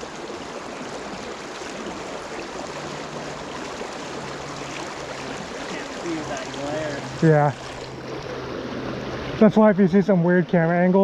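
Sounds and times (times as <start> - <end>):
river water rushing over rocks: 0.0 - 9.6.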